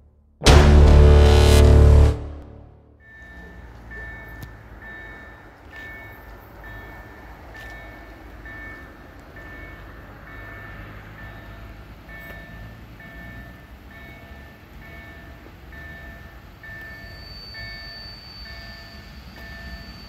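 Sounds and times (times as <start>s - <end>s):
level crossing warning beeps: 3.0s - 13.5s, 14.3s - 20.0s.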